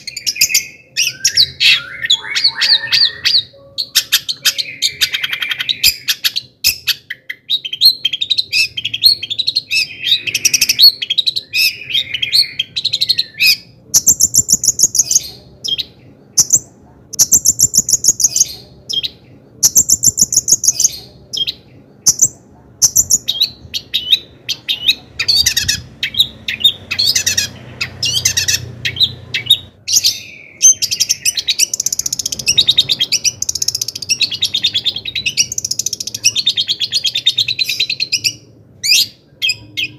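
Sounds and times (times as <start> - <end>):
shrike singing chatter and trills: 0.0 - 39.9.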